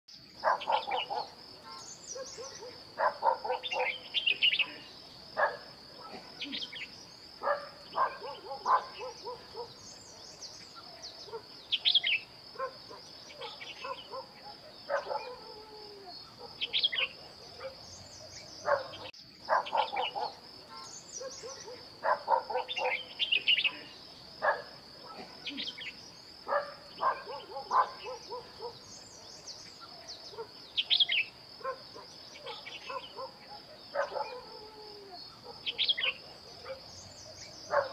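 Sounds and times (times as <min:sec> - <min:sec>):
birds chattering and chirping: 0:00.1 - 0:37.9.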